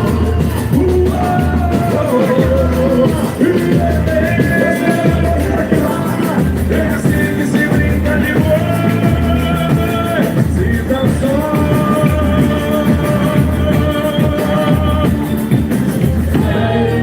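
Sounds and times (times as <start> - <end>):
band playing with drums: 0.0 - 17.0.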